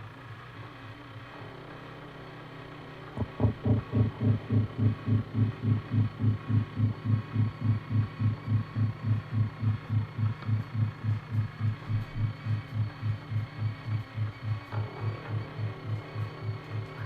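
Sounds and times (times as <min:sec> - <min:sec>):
steady hum: 0:00.0 - 0:17.0
low throbbing pulse: 0:03.2 - 0:17.0.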